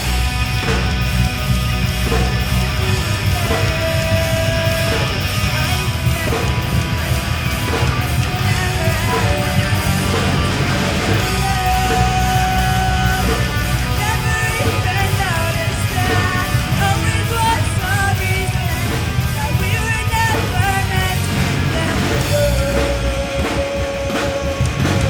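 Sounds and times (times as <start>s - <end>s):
bending lead guitar line: 0.0s - 25.0s
live rock band playing: 0.0s - 25.0s.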